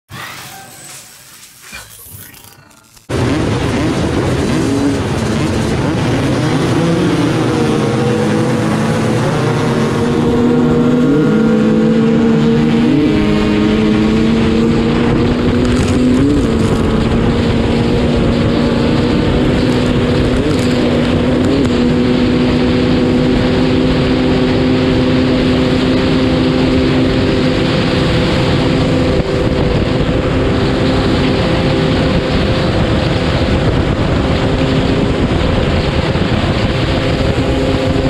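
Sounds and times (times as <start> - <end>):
dirt bike engines revving: 0.0 - 38.0
two-stroke motorcycle engine at full throttle: 3.0 - 38.0.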